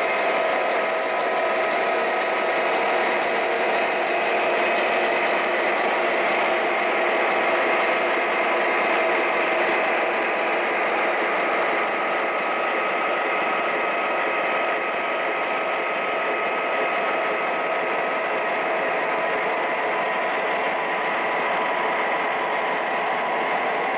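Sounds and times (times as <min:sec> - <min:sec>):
model locomotive engine drone: 0:00.0 - 0:23.9.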